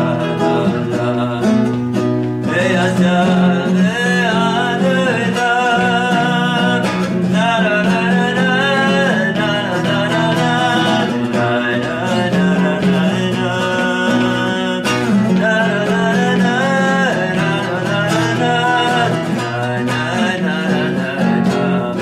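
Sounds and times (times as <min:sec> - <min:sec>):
acoustic guitar strumming: 0:00.0 - 0:22.0
man singing: 0:00.0 - 0:22.0.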